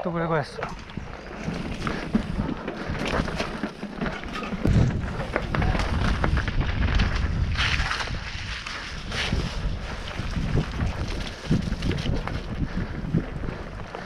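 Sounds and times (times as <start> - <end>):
mountain bike clattering on stones: 0.5 - 14.0.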